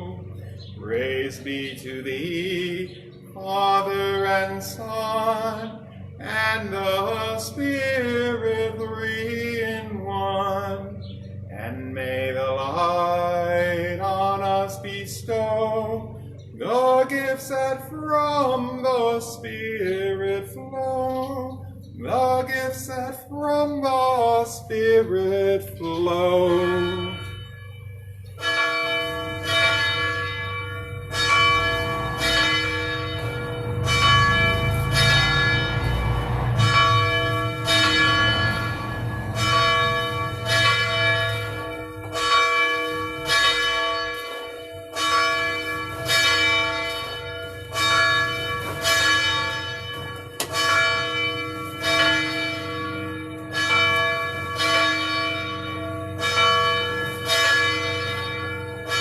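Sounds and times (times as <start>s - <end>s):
church bell ringing: 0.0s - 59.0s.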